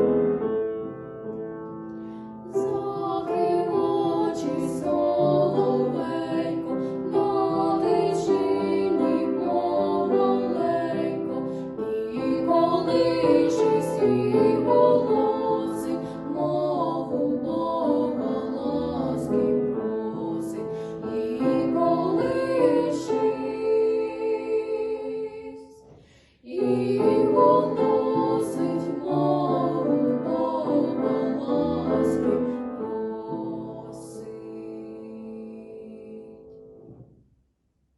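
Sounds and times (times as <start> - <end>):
two women singing a duet: 2.5 - 36.7.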